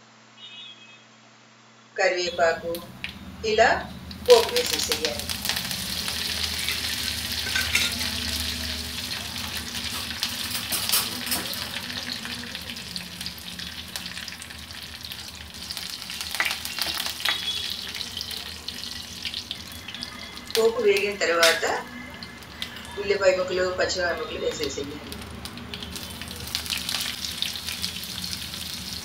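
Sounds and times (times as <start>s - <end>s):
spices sizzling in hot oil: 2.7s - 29.0s.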